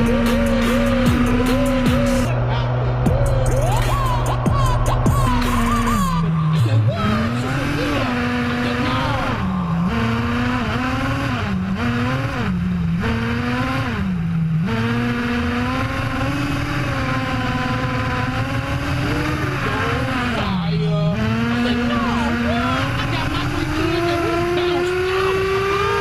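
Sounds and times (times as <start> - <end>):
small engine high whine: 0.0 - 26.0.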